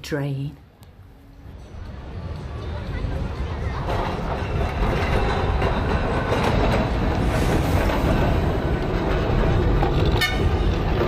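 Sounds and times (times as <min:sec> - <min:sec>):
tram wheels rumbling on rail: 0:01.4 - 0:11.0.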